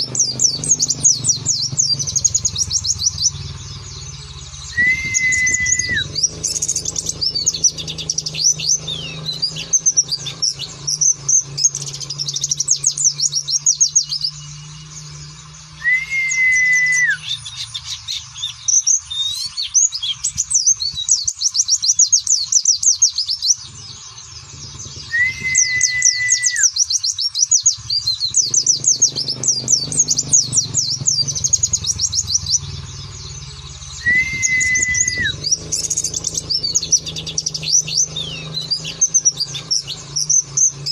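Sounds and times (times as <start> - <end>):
songbird twittering trills: 0.0 - 40.9.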